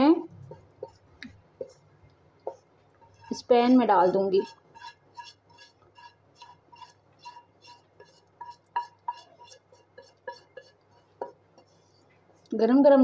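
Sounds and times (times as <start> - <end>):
spatula scraping metal pan: 0.0 - 1.8, 2.4 - 12.4.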